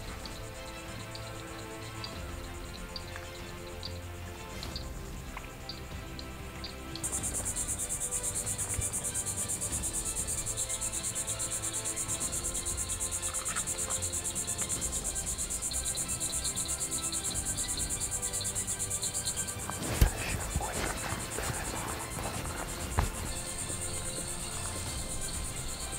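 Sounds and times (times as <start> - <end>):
faint music: 0.0 - 25.9
insects chirping: 0.0 - 25.9.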